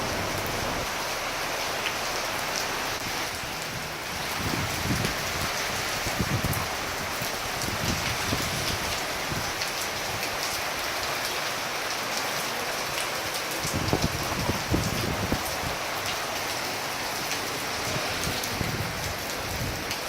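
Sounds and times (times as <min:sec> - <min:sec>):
heavy rain rushing: 0:00.0 - 0:20.0.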